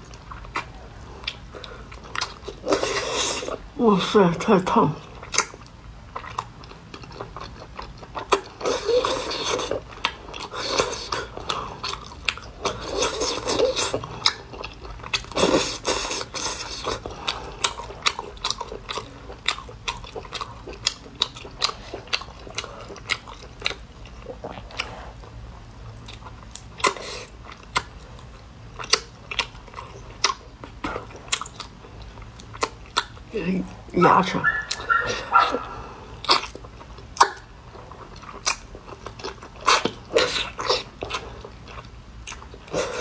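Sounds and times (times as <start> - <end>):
wet chewing sounds: 0.0 - 3.8, 4.6 - 43.0.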